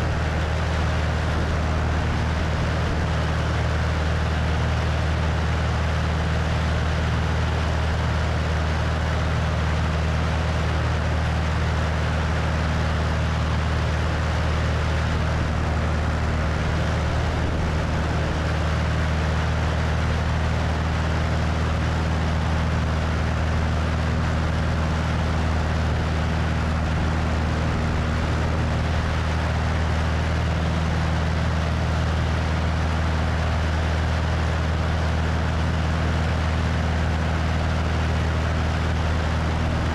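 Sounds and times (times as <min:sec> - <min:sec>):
propeller plane engine humming: 0:00.0 - 0:39.9.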